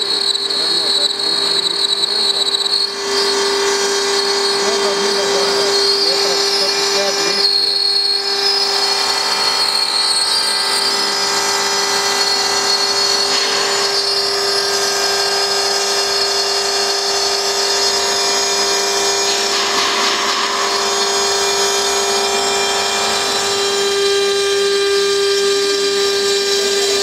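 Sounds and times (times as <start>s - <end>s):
cutter milling stone: 0.0s - 27.0s
milling spindle whining: 0.0s - 27.0s.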